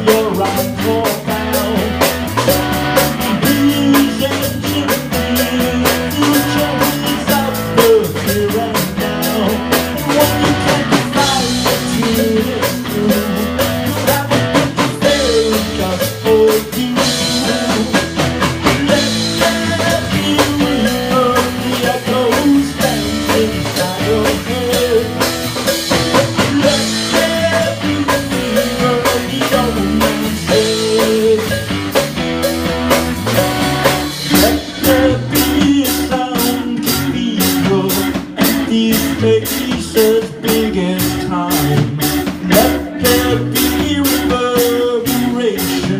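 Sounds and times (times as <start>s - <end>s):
drum kit beat: 0.0s - 45.9s
guitar: 0.0s - 45.9s.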